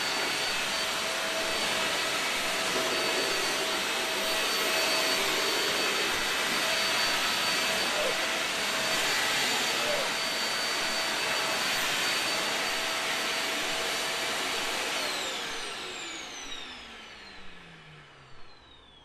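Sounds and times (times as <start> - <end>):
vacuum cleaner motor running: 0.0 - 19.0.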